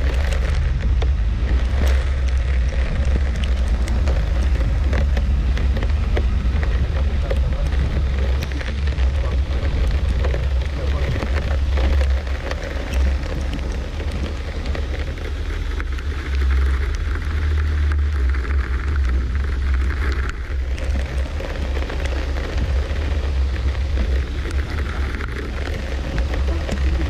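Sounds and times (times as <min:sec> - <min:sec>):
rough crackling noise: 0:00.0 - 0:27.0
vehicle engine rumble: 0:00.0 - 0:27.0.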